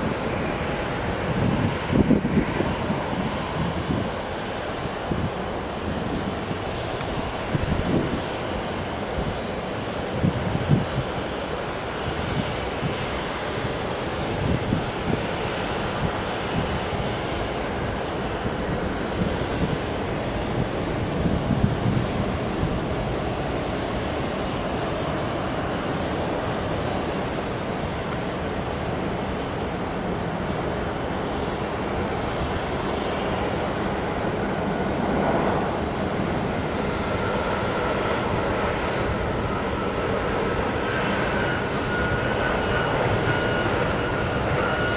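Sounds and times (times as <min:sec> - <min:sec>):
airliner engines roaring: 0:00.0 - 0:44.9.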